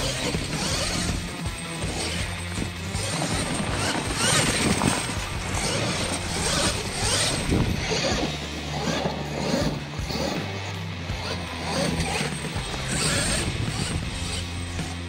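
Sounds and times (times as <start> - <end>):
background music with bass: 0.0 - 15.0
rc truck motor whining: 0.0 - 15.0
tires hissing and dirt spraying: 0.0 - 15.0.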